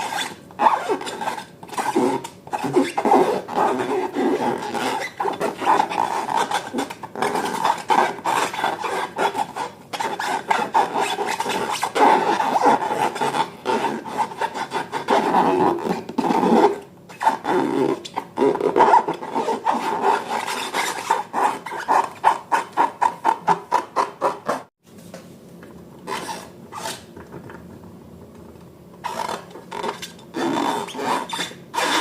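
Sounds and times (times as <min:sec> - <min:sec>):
squeaky rubbing of balloons: 0:00.0 - 0:24.7, 0:26.0 - 0:27.2, 0:29.0 - 0:32.0.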